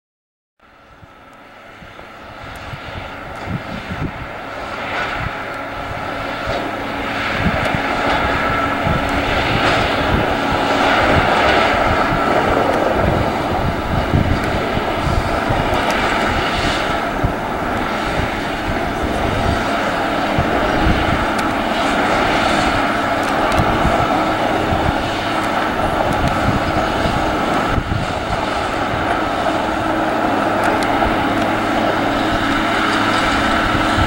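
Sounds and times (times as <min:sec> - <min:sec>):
locomotive engine drone: 0:00.6 - 0:34.0
soft engine pulses: 0:00.6 - 0:34.0.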